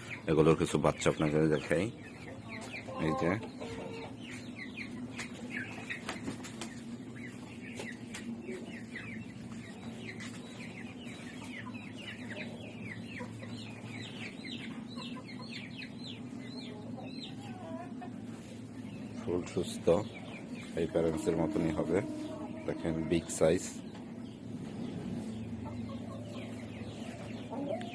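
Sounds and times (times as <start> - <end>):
chicks peeping: 0.0 - 27.9
steady low hum: 0.0 - 27.9.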